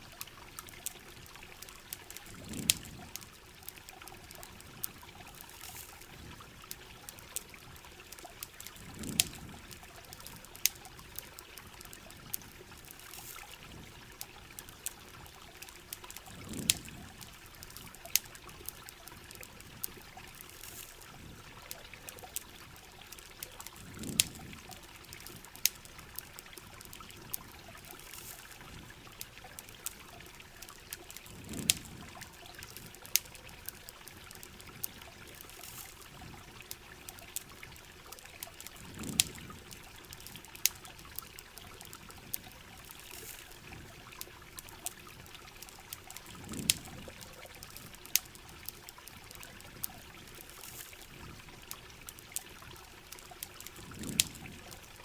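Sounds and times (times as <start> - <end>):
campfire crackles and pops: 0.0 - 55.0.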